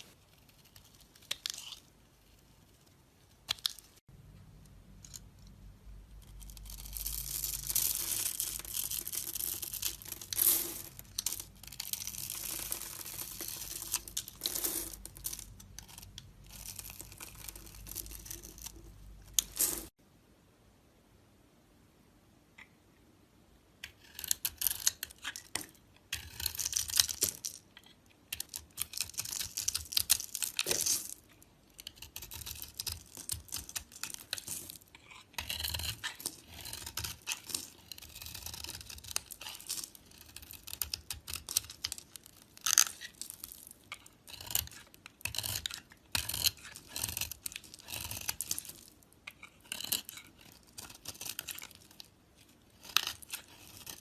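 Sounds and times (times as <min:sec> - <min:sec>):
knife scraping soap: 0:00.2 - 0:03.8, 0:06.4 - 0:19.9, 0:23.8 - 0:54.0.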